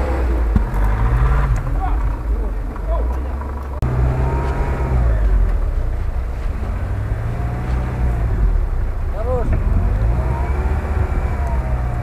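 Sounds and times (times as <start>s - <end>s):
car engines revving under load: 0.0s - 12.0s.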